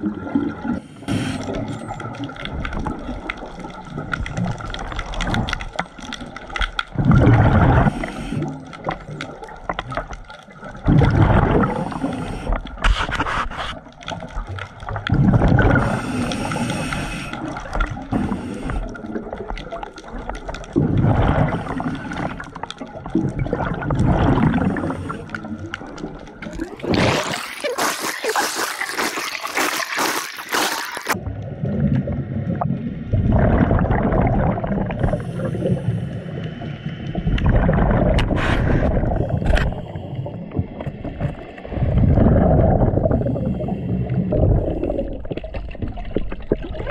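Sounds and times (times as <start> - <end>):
underwater bubbles gurgling: 0.0 - 46.9.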